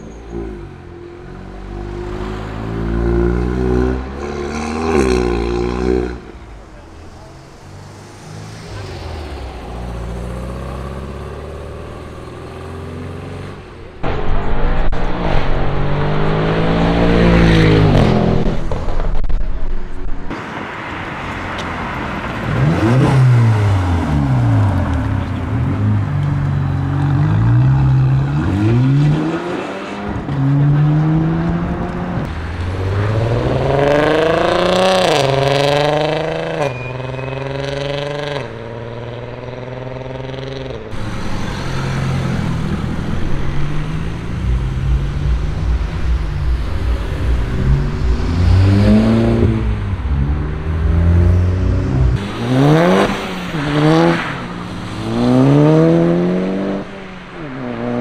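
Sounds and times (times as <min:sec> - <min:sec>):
cars accelerating hard: 0:00.3 - 0:14.2, 0:14.8 - 0:18.9, 0:20.9 - 0:58.0.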